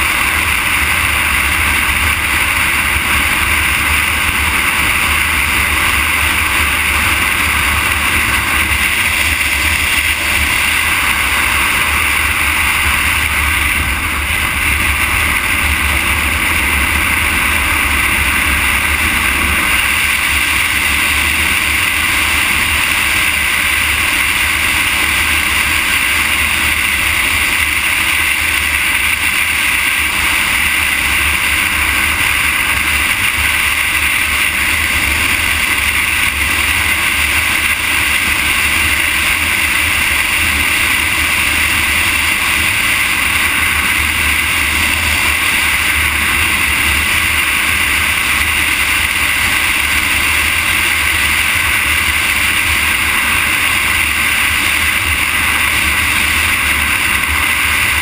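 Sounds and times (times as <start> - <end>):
road noise: 0.0 - 58.0
wind rushing on microphone: 0.0 - 58.0.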